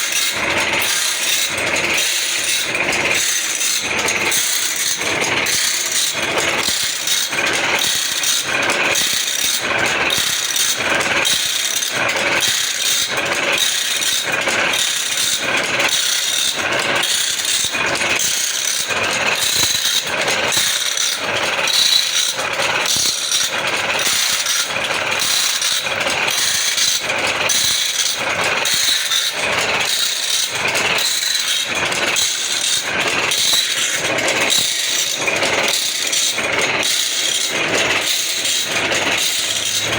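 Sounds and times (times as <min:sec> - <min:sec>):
high grinding hiss: 0:00.0 - 0:39.9
machine rhythmic clatter: 0:00.0 - 0:39.9.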